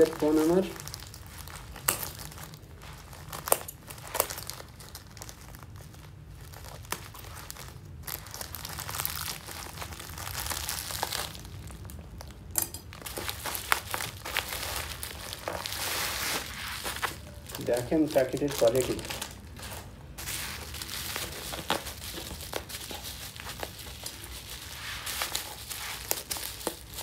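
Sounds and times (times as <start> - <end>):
plastic mailer bag crinkling: 0.0 - 27.0.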